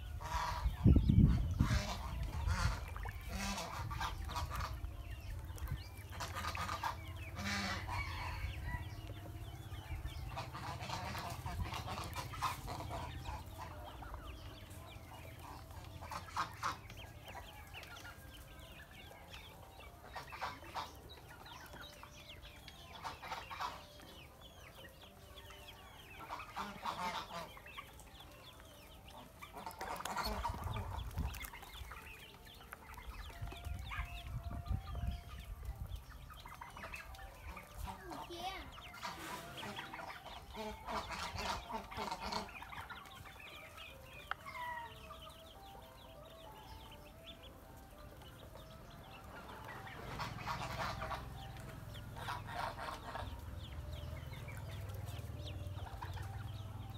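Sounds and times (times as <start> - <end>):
ducklings peeping: 0.0 - 56.9.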